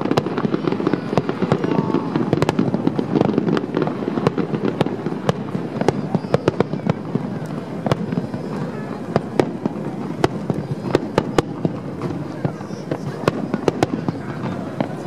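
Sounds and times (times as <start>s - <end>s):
firework bangs and crackles: 0.0s - 15.0s.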